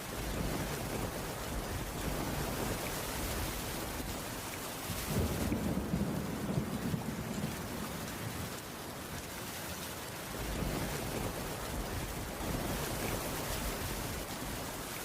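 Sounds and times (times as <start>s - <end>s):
heavy rain on a wooden roof: 0.0s - 15.0s
low rumble of thunder: 0.1s - 9.2s, 10.2s - 14.8s.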